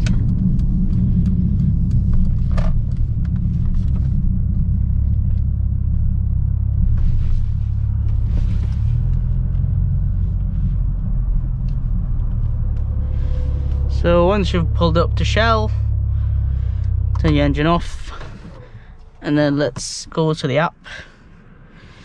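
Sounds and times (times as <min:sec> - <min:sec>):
car engine rumble inside cabin: 0:00.0 - 0:22.0.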